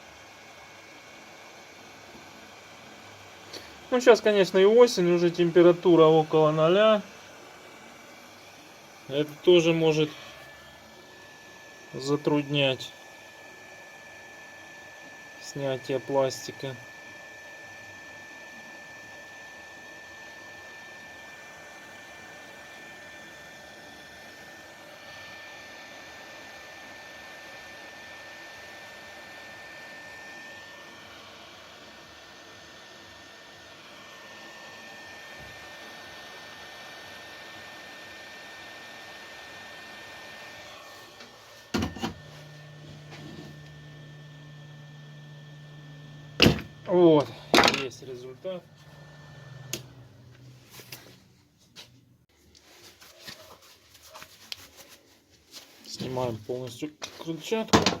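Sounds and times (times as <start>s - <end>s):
hot-air gun blowing with high whine: 0.0s - 51.3s, 54.5s - 58.0s.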